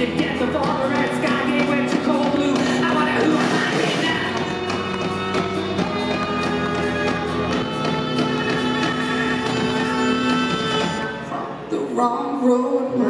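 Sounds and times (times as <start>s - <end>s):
drums: 0.0s - 11.6s
electric guitar: 0.0s - 11.7s.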